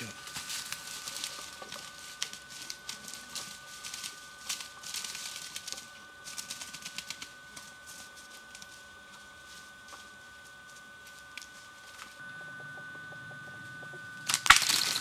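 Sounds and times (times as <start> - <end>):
dry twigs rustling and crackling: 0.0 - 15.0
faint high whine: 0.0 - 15.0.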